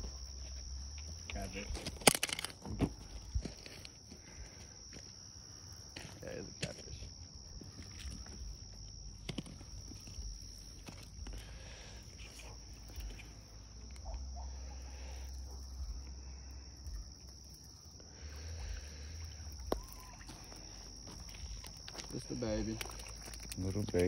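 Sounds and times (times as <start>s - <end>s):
night insects chirring: 0.0s - 24.0s.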